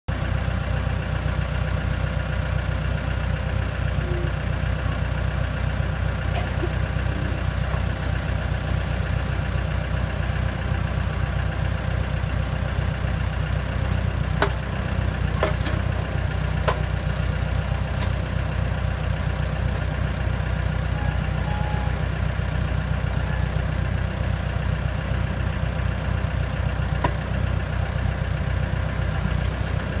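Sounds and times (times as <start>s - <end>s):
engine idling: 0.1s - 30.0s.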